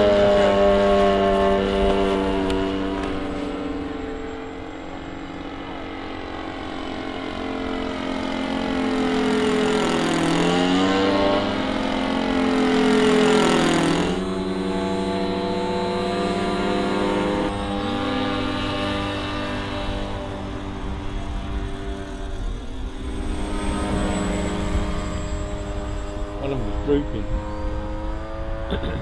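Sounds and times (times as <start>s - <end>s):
model plane engine and propeller: 0.0s - 29.0s.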